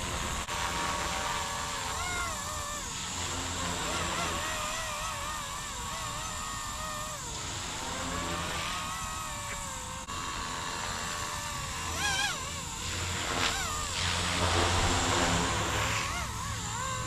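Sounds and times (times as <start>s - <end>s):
toy helicopter motor and rotor whining: 0.0s - 17.0s.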